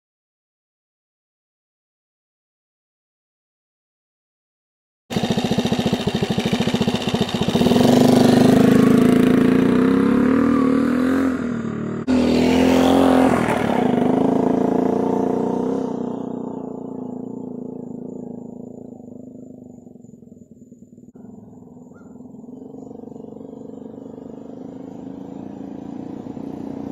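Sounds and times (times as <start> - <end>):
motorcycle engine puttering past: 5.1 - 26.9.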